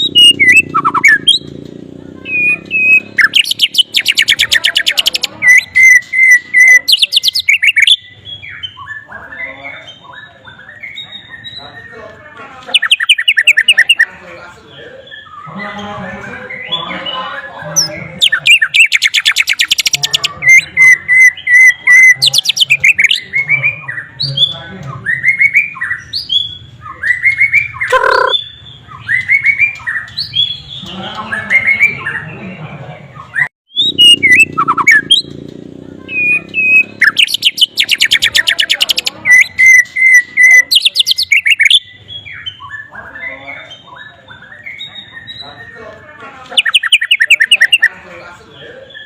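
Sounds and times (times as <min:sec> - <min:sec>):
songbird whistling and trilling: 0:00.0 - 0:01.6, 0:02.2 - 0:12.0, 0:12.7 - 0:14.1, 0:15.0 - 0:15.8, 0:16.4 - 0:32.4, 0:33.2 - 0:35.3, 0:36.1 - 0:45.8, 0:46.5 - 0:48.0, 0:48.8 - 0:49.0.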